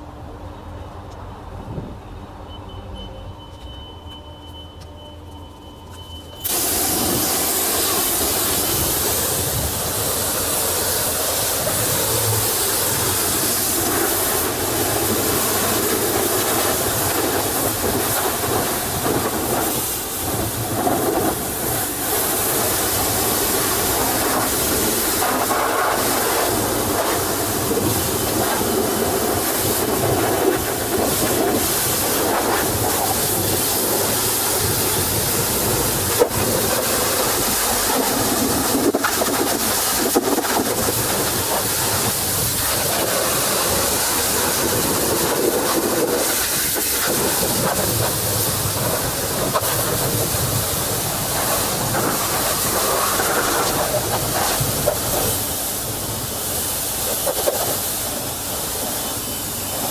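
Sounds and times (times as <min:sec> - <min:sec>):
pressure washer spraying water: 0:06.4 - 0:59.9.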